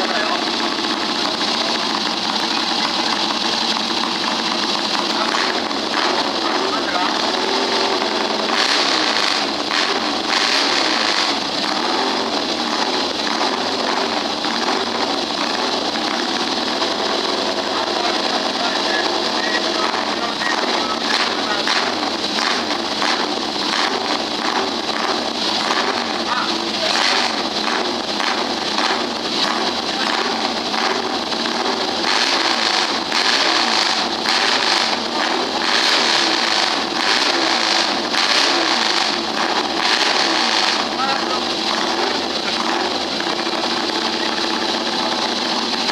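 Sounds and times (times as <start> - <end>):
motorcycle engine running loudly: 0.0 - 45.9.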